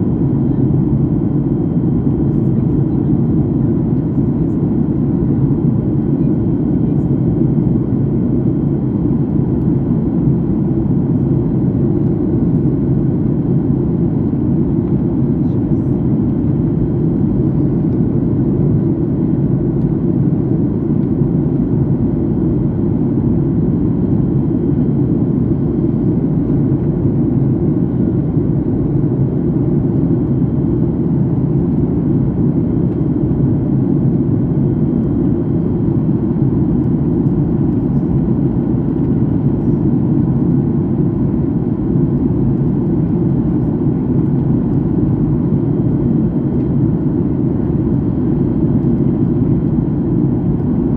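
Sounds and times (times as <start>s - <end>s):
airliner cabin jet engine roar: 0.0s - 50.9s.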